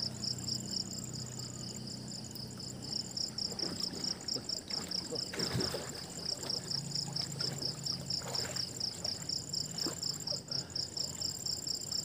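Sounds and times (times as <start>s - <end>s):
crickets chirping: 0.0s - 12.0s
high insect trill: 0.0s - 12.0s.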